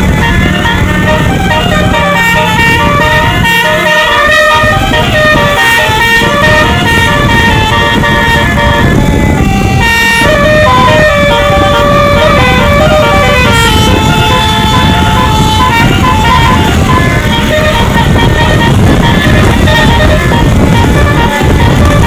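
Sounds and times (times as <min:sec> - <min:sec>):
musical bus horn playing a tune: 0:00.0 - 0:22.0
steady low rumble: 0:00.0 - 0:22.0.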